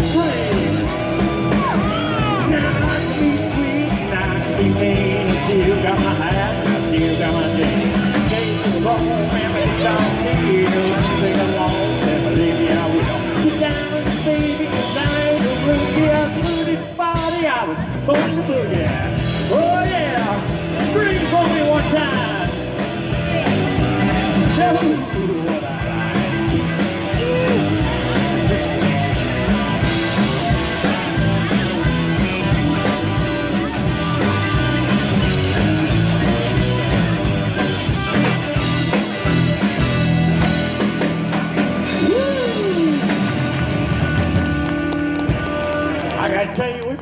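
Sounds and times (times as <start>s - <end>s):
person singing: 0.0s - 17.4s, 18.1s - 37.0s, 41.8s - 44.2s
live rock band playing: 0.0s - 47.0s.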